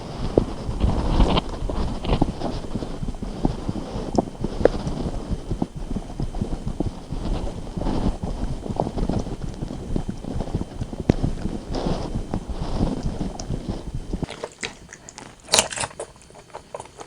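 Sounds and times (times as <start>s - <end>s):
close chewing with mouth clicks: 0.0s - 17.0s.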